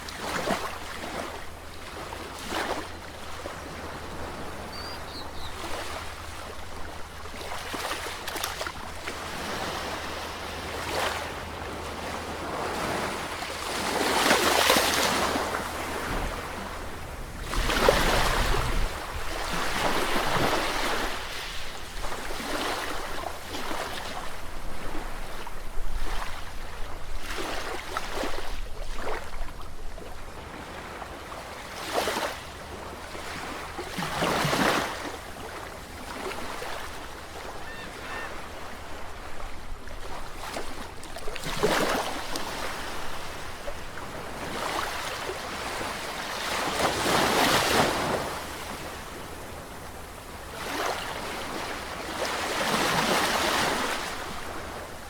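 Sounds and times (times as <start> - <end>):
sea waves breaking: 0.0 - 29.3, 30.4 - 55.0.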